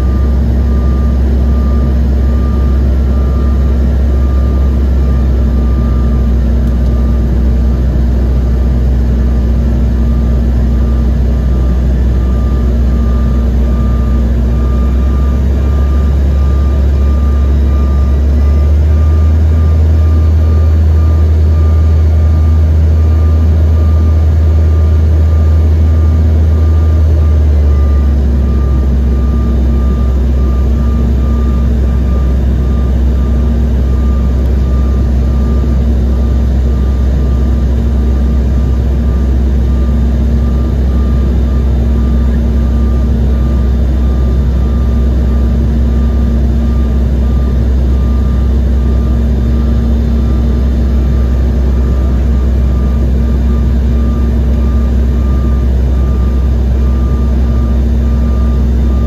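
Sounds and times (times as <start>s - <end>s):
faint steady whine: 0.0s - 59.0s
jet cabin drone: 0.0s - 59.0s.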